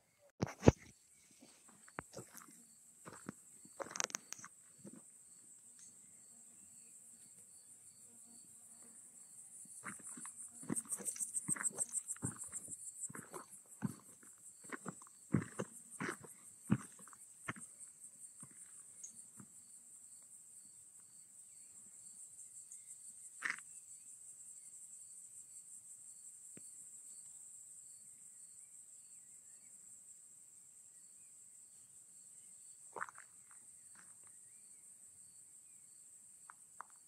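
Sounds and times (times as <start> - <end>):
crickets chirring: 0.0 - 37.0.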